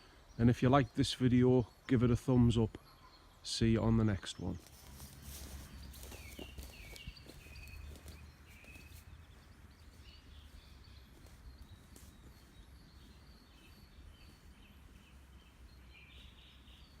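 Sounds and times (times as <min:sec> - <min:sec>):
distant birdsong: 0:00.0 - 0:17.0.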